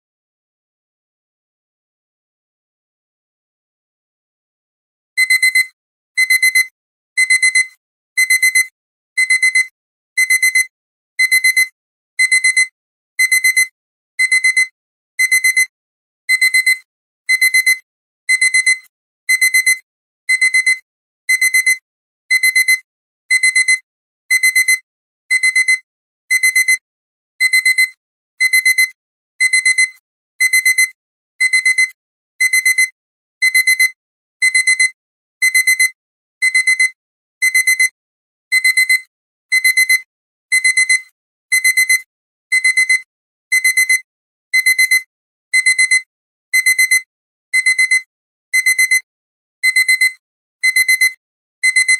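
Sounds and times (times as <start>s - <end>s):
alarm clock double beeps: 5.2s - 15.7s, 16.3s - 26.8s, 27.4s - 51.9s.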